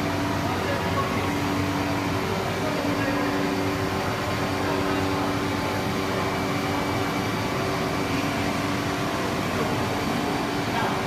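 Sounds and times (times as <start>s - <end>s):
machine hum and whir: 0.0s - 11.0s.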